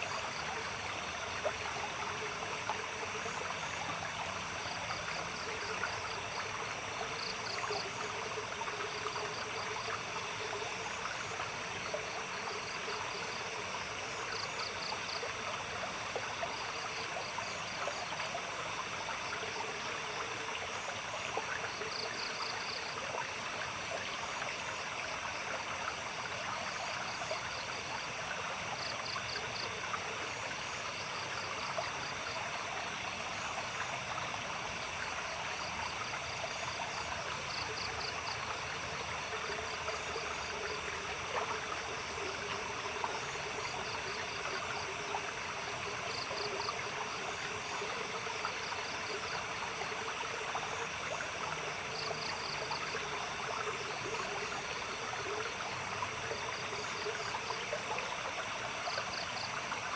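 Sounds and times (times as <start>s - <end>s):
high insect drone: 0.0s - 59.9s
stream trickling and splashing: 0.0s - 59.9s.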